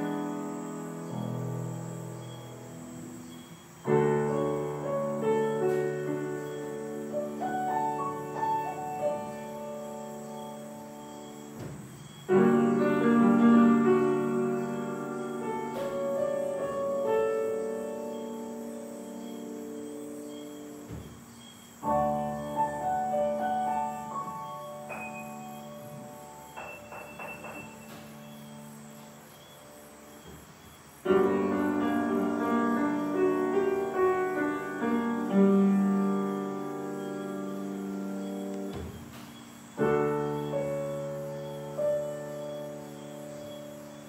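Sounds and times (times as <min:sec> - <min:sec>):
piano chords and notes: 0:00.0 - 0:44.0.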